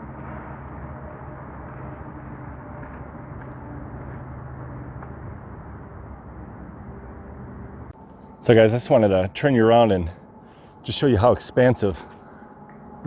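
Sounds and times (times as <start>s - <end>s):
distant highway traffic: 0.0s - 13.0s
trucks passing: 0.0s - 13.0s.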